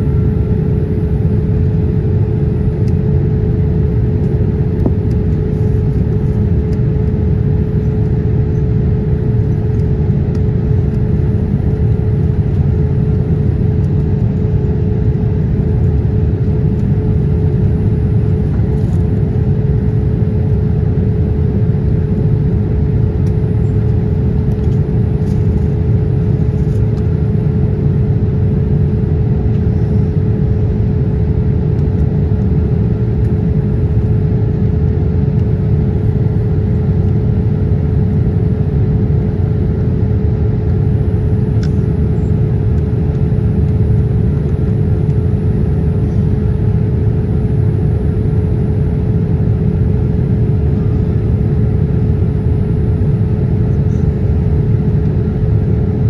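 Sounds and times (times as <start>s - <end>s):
constant cabin hum: 0.0s - 56.0s
jet engine and airflow roar: 0.0s - 56.0s.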